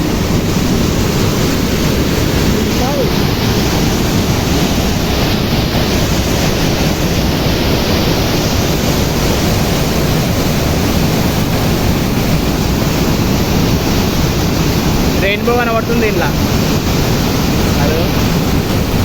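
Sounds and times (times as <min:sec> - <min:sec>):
water rushing through spillway: 0:00.0 - 0:19.0
wind buffeting microphone: 0:00.0 - 0:19.0.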